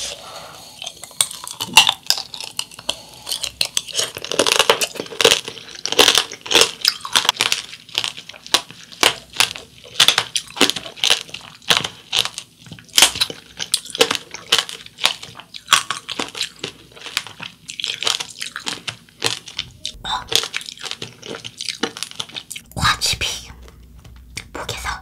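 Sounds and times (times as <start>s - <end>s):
candy coating crunching: 0.0s - 22.7s.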